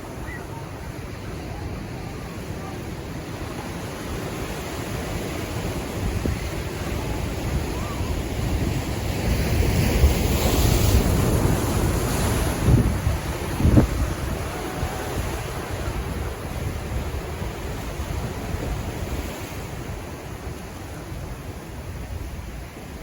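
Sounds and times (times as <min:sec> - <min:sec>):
ocean waves washing in: 0:00.0 - 0:23.0
wind buffeting microphone: 0:00.0 - 0:23.0.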